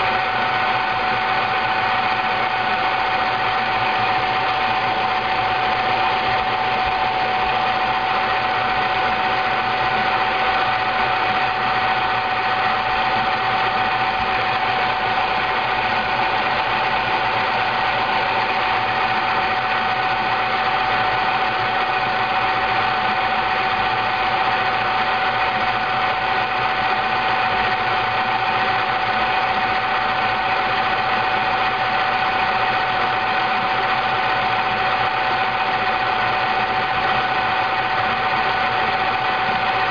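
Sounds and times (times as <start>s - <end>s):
milk frother motor hum: 0.0s - 39.9s.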